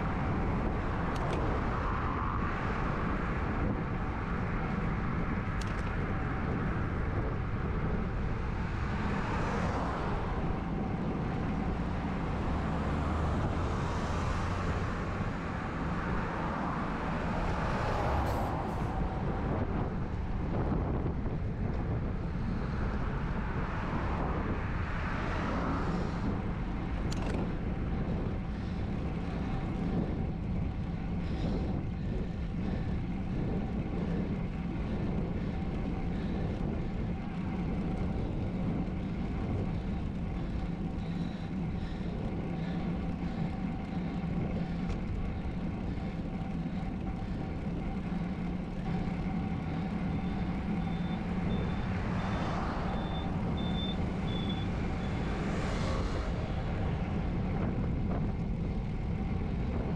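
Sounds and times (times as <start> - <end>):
passing traffic: 0.0 - 59.9
wind rushing over microphone: 0.0 - 59.9.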